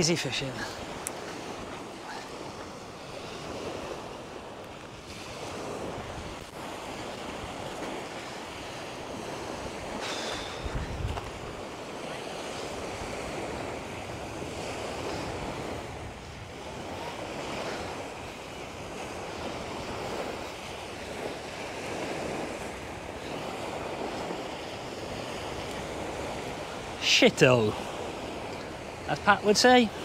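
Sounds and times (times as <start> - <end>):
small waves on shingle beach: 0.0 - 30.0
wind on microphone: 0.6 - 27.0.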